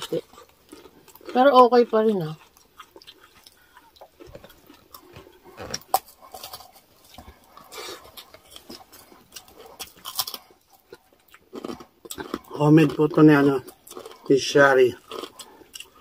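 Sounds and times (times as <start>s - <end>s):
chewing crispy pork: 0.0s - 16.0s.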